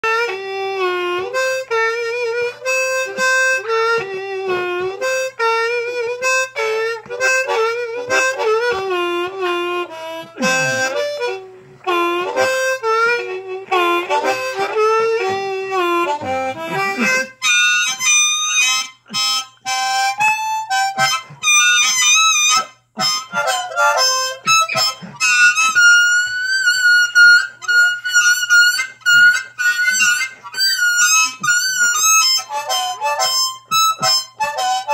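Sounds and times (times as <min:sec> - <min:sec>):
harmonica playing slow blues: 0:00.0 - 0:34.9.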